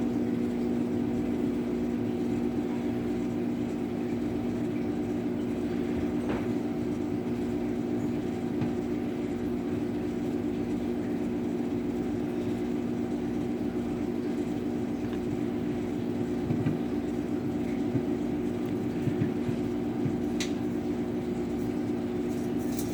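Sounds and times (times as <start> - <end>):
microwave oven humming: 0.0 - 22.9.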